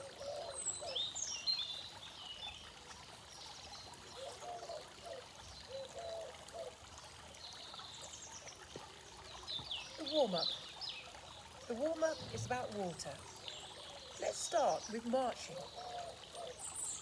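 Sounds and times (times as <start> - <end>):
birds chirping: 0.0 - 17.0
fountain trickling: 0.0 - 17.0.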